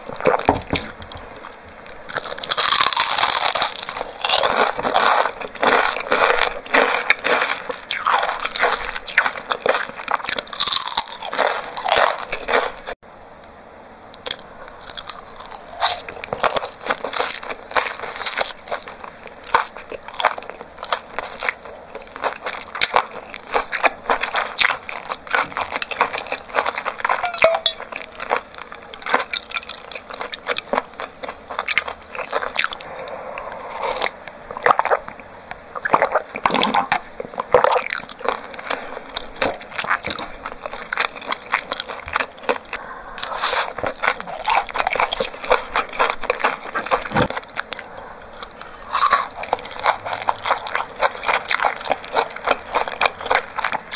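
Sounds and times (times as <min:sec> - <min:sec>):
crunchy bites: 0:00.0 - 0:12.9, 0:14.2 - 0:35.2, 0:35.8 - 0:53.9
wet chewing and smacking: 0:00.0 - 0:13.0, 0:14.2 - 0:53.9.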